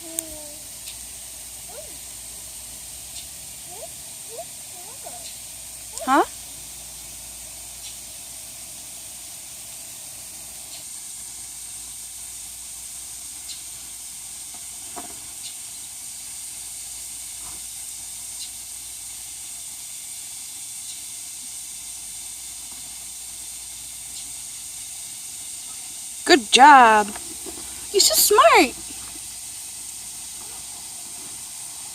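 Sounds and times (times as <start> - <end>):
high-pitched hiss: 0.0 - 31.9.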